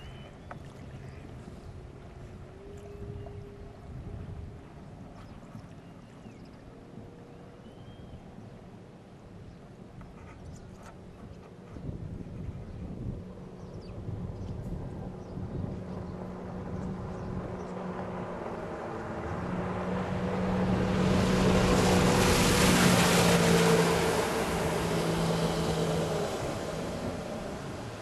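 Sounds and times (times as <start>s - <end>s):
jet ski engine passing: 0.0s - 28.0s.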